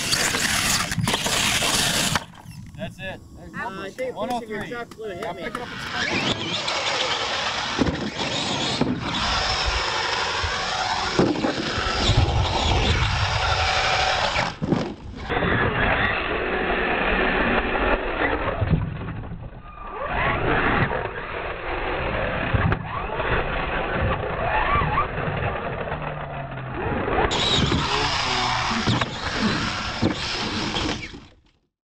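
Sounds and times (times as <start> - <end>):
rc truck motors whining: 0.0 - 2.8, 5.2 - 31.6.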